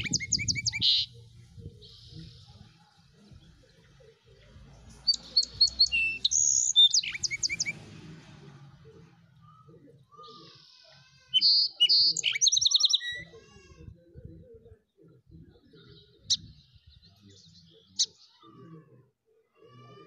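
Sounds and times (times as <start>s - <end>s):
songbird chirping and trilling: 0.0s - 20.0s.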